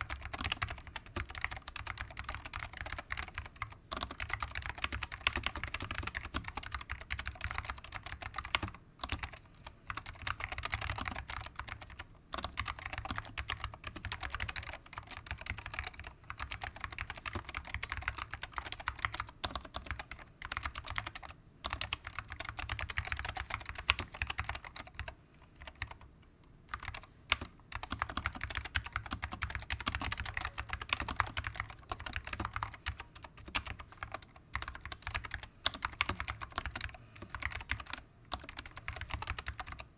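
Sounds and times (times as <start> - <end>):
mechanical keyboard typing: 0.0 - 26.1, 26.7 - 39.9.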